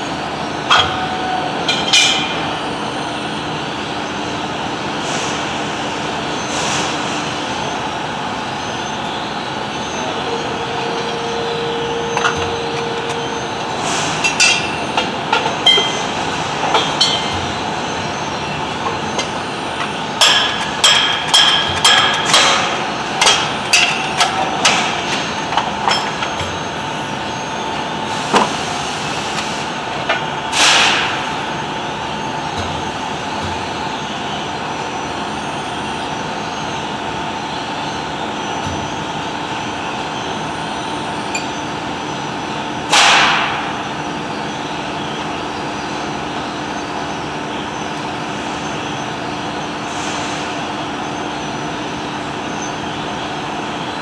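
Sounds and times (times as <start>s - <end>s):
machine shop machinery hum: 0.0s - 54.0s.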